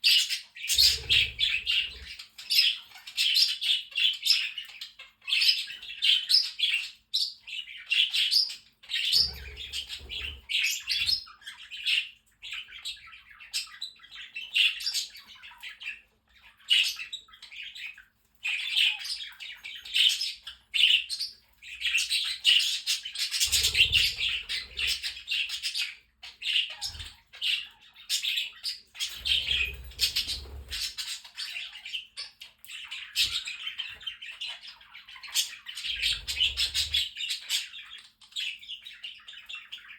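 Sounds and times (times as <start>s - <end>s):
bird squawks: 0.0s - 7.0s, 7.7s - 39.9s
budgerigars chattering and chirping: 0.0s - 39.9s.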